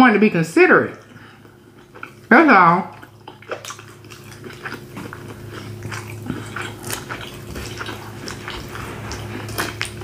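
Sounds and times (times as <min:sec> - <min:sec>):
steady low hum: 0:00.0 - 0:10.0
chewing with wet mouth clicks: 0:01.0 - 0:10.0.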